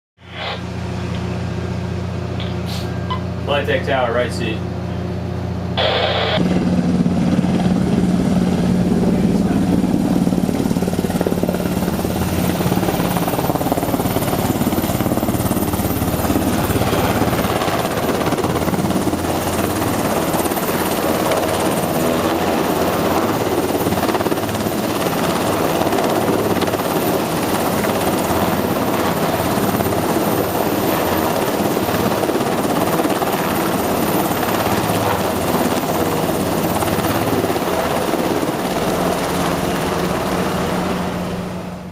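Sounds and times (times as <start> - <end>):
helicopter rotor and turbines: 0.2 - 41.9.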